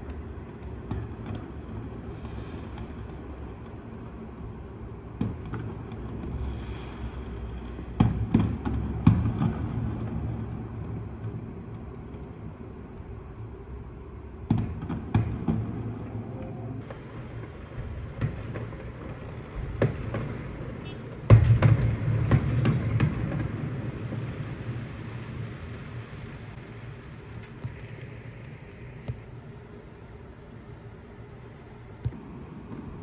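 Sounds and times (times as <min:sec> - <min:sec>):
fireworks bangs: 0:00.0 - 0:12.3, 0:14.4 - 0:29.7
rumbling fireworks volley: 0:00.0 - 0:33.0.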